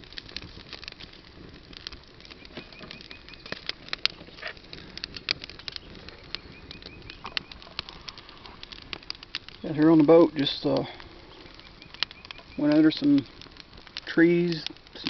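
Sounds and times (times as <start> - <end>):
dry twigs crackling: 0.0 - 15.0.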